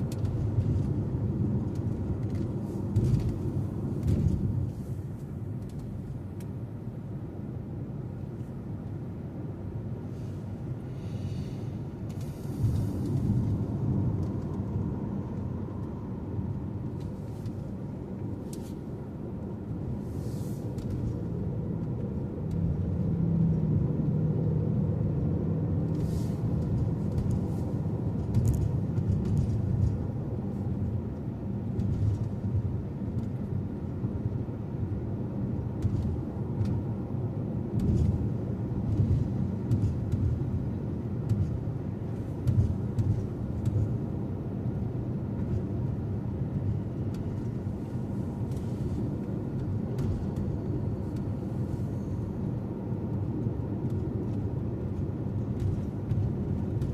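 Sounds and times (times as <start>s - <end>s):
car engine and tyres rumbling: 0.0s - 56.9s.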